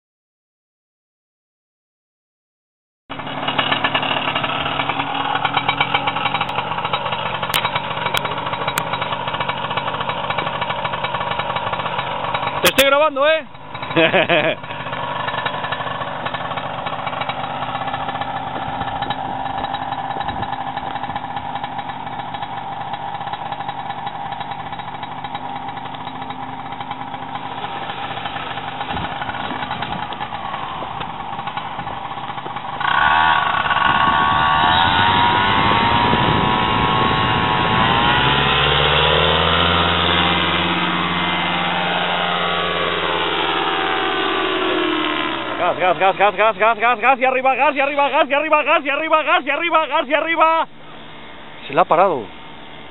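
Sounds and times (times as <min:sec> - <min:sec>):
paramotor engine running: 0:03.1 - 0:52.9.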